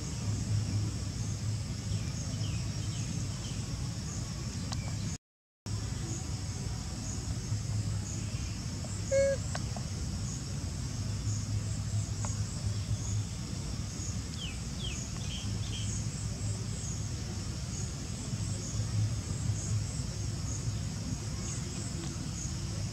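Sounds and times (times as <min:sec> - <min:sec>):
insect chorus drone: 0:00.0 - 0:22.9.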